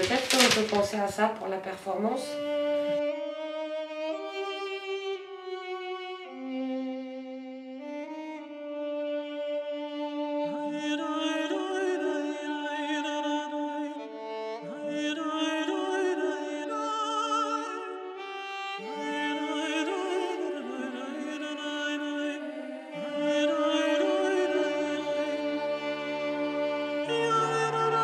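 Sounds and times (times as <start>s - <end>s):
bowed strings classical music: 0.0s - 28.0s.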